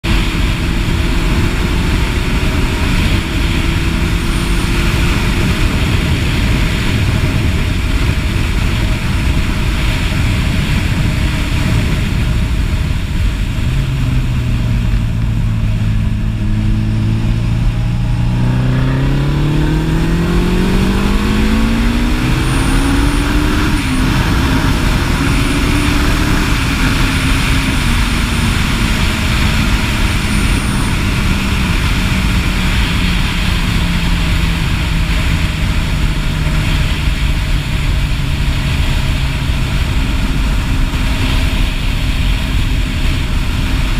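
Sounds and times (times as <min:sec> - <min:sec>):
motorcycle engine accelerating: 0:00.0 - 0:43.9
wind noise on microphone: 0:00.0 - 0:43.9.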